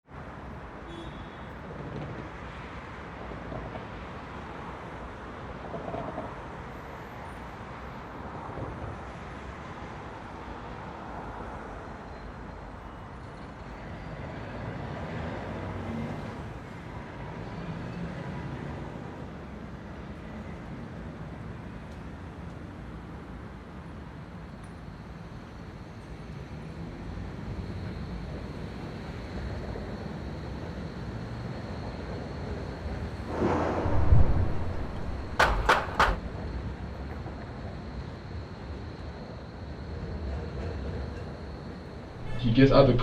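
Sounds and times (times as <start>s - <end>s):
street traffic rumble: 0.1s - 43.0s.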